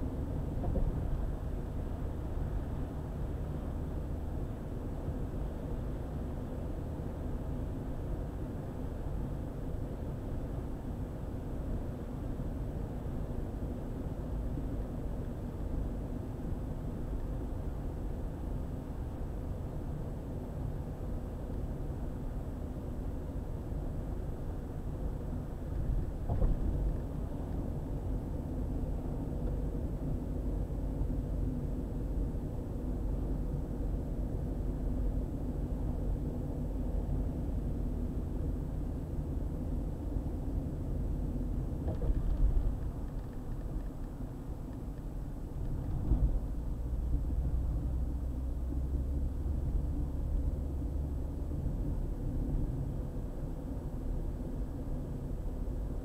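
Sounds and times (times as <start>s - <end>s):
car driving on highway: 0.0s - 56.0s.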